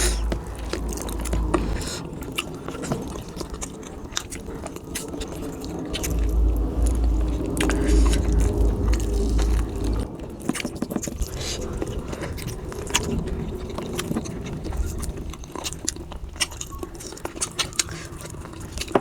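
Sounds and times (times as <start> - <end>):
low rumble: 0.0 - 15.3
person chewing food: 0.0 - 19.0.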